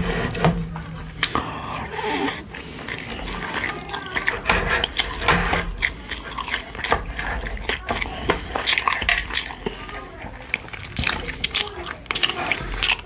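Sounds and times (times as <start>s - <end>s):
wet chewing and mouth smacks: 0.9s - 13.0s.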